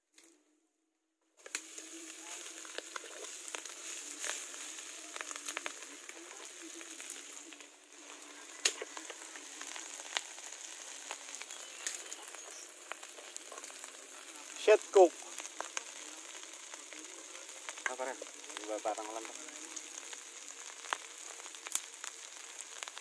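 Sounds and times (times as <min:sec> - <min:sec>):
food sizzling in hot oil: 0:01.4 - 0:23.0.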